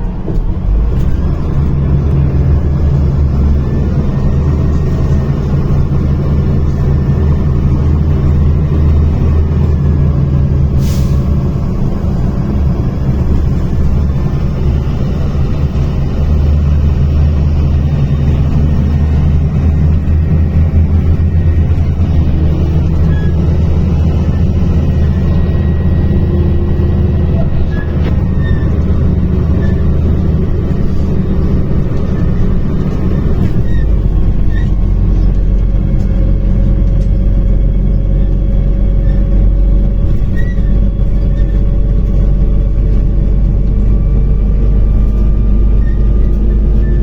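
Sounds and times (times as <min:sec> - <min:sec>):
bus diesel engine droning: 0:00.0 - 0:47.0.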